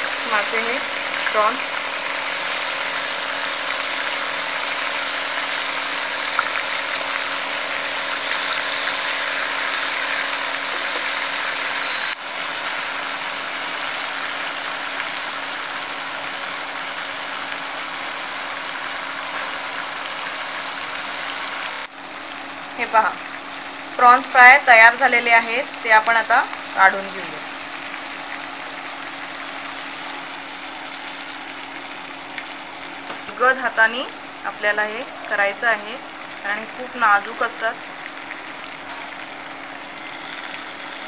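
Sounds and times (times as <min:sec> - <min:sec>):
prawns sizzling in hot oil: 0:00.0 - 0:41.0.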